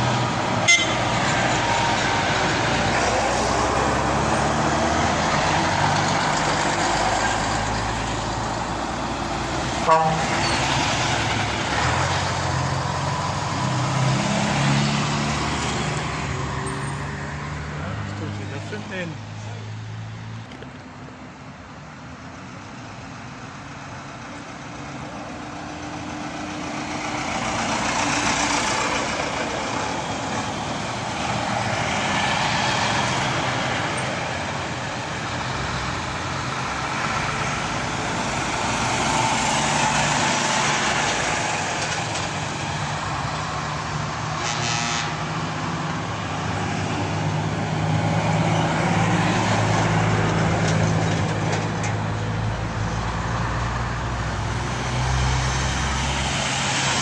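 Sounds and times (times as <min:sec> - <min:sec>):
trucks driving past: 0:00.0 - 0:57.0.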